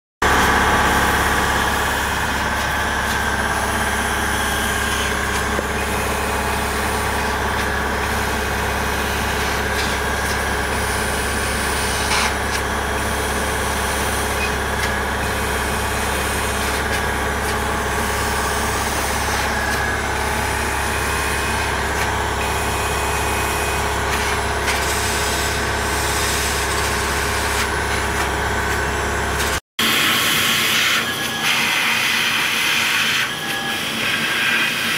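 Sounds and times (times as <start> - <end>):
laser cutter humming: 0.2 - 34.9.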